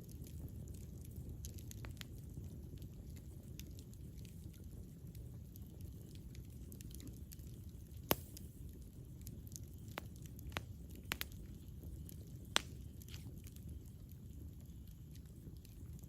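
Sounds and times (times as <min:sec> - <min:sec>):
campfire flames rumbling: 0:00.0 - 0:16.0
fire popping and snapping: 0:00.0 - 0:16.0.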